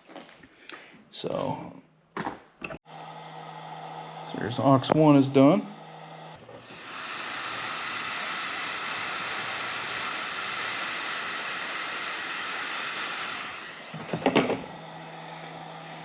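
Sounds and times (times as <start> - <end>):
heat gun blowing: 2.9 - 16.0.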